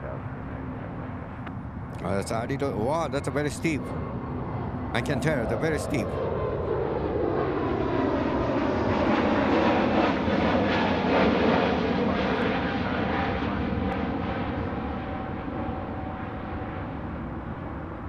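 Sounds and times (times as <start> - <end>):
jet engines climbing overhead: 0.0 - 18.0.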